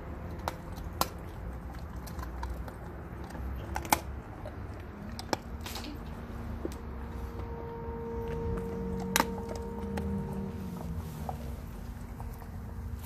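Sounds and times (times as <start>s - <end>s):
dog chewing bone: 0.0s - 6.2s, 8.2s - 13.0s.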